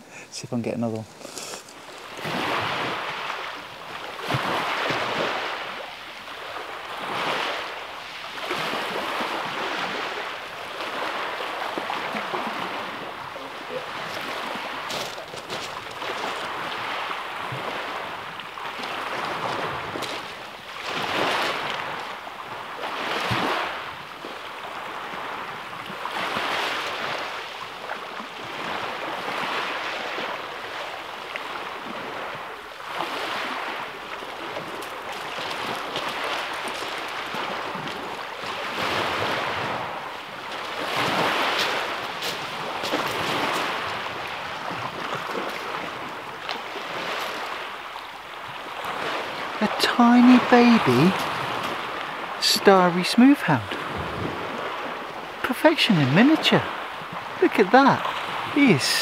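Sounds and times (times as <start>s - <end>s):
small waves on shingle beach: 0.0s - 59.0s.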